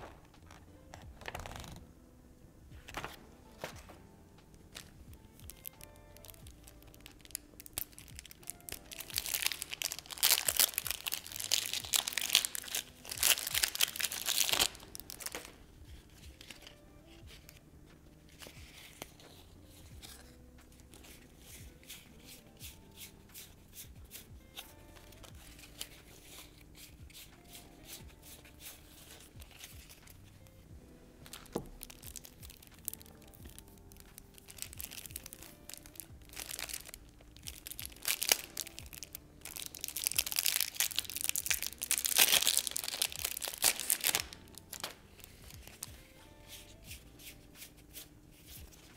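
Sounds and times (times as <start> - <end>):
playing cards clicking and flicking: 0.0 - 1.8, 2.8 - 17.6, 18.3 - 30.4, 31.2 - 45.9
soft background music: 0.0 - 48.9
shrink wrap crinkling and tearing: 4.7 - 17.6, 18.3 - 30.6, 31.2 - 48.9.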